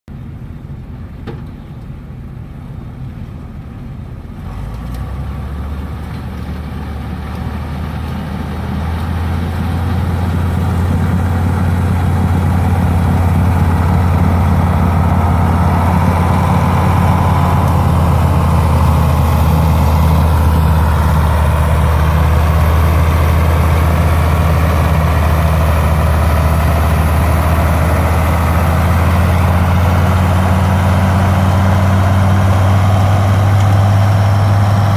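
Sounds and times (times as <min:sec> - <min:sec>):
tractor engine humming: 0:00.1 - 0:34.9.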